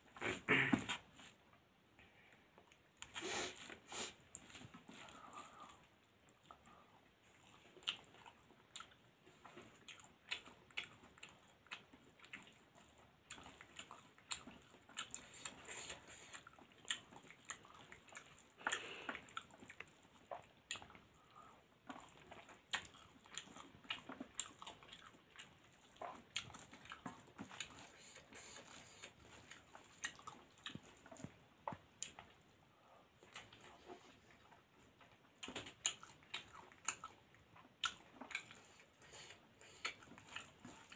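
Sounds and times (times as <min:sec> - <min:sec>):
chewing with wet mouth clicks: 0:04.3 - 0:40.9.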